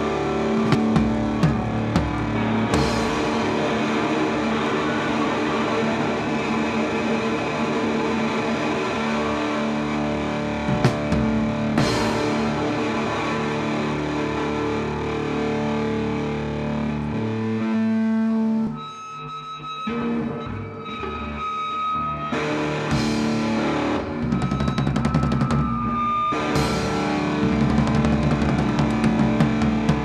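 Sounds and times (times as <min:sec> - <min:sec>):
electric guitar chords ringing: 0:00.0 - 0:30.0
live rock band playing: 0:00.0 - 0:30.0.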